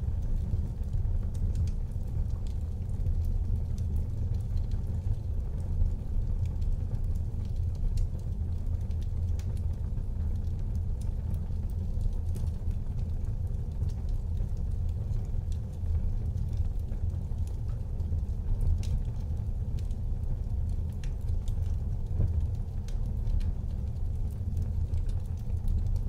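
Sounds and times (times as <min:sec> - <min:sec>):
flames rumbling: 0:00.0 - 0:26.0
wood crackling and popping: 0:00.0 - 0:26.0.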